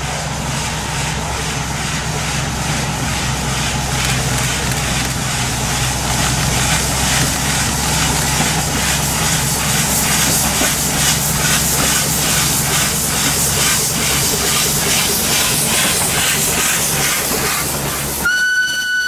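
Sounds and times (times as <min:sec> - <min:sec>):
diesel engine drone: 0:00.0 - 0:18.3
steam hissing: 0:00.0 - 0:19.0
steam locomotive chuffing: 0:00.0 - 0:19.0.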